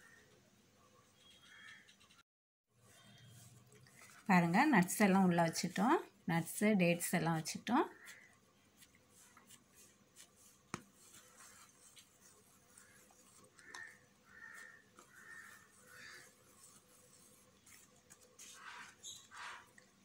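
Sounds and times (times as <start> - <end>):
hands shaping dough rustling: 2.8 - 20.0.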